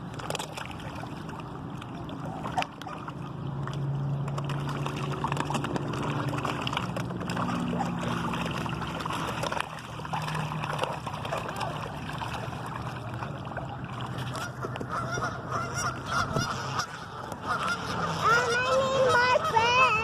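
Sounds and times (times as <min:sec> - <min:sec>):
low steady hum: 0:00.0 - 0:20.0
pond water splashing: 0:00.0 - 0:20.0.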